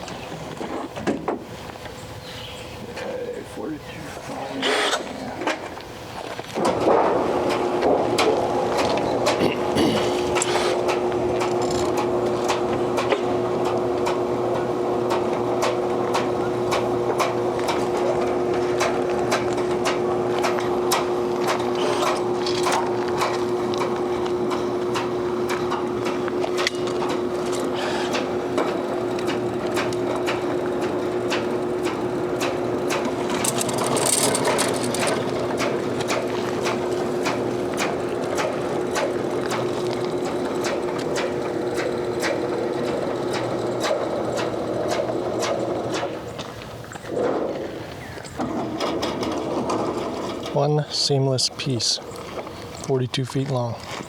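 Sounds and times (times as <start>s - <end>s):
gutter machine motor humming: 6.7s - 54.0s.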